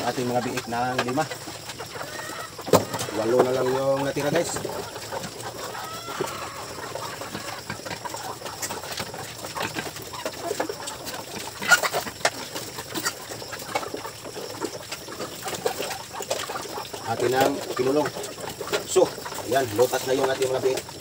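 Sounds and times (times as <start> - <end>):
chickens clucking: 0.0 - 21.0
piglets eating from a feed dish: 0.0 - 21.0.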